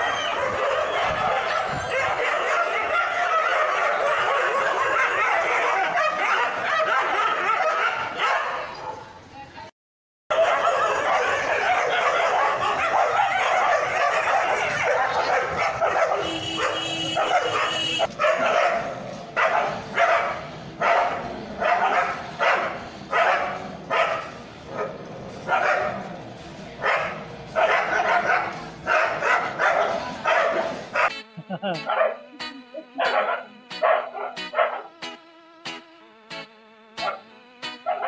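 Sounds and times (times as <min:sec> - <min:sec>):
dogs growling and barking: 0:00.1 - 0:09.0, 0:10.3 - 0:26.1, 0:26.8 - 0:31.1, 0:32.9 - 0:35.0.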